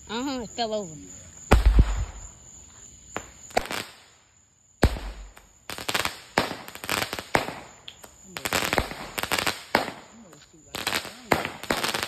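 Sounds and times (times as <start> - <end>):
firework bangs and cracks: 1.5 - 2.3, 3.1 - 12.0.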